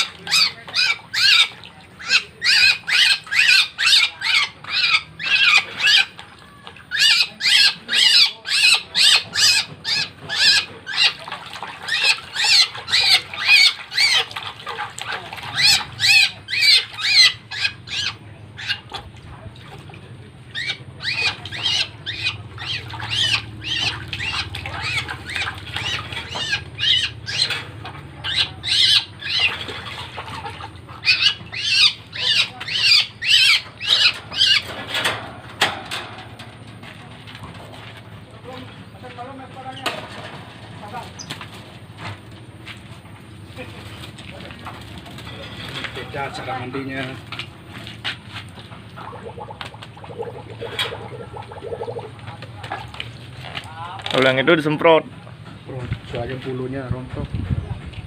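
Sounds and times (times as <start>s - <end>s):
birds squawking: 0.0s - 19.1s, 20.4s - 47.5s, 48.6s - 53.3s.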